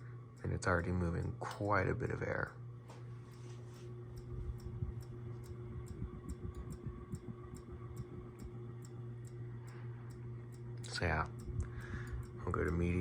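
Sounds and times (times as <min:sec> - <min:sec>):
ceiling fan motor hum: 0:00.0 - 0:13.0
fan ticking: 0:00.0 - 0:13.0.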